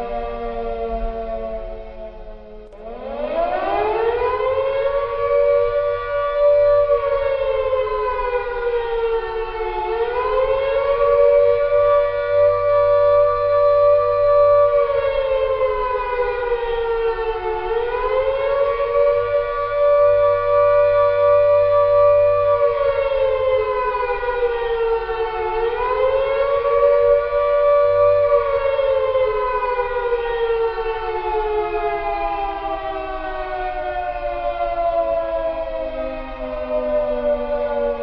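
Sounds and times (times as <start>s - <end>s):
air-raid siren wailing: 0.0s - 38.0s.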